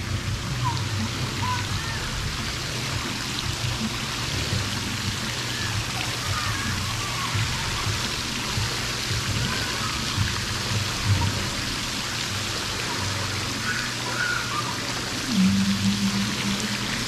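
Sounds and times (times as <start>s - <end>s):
music playing: 0.0s - 13.6s, 15.3s - 17.0s
rush of running water: 0.0s - 17.0s.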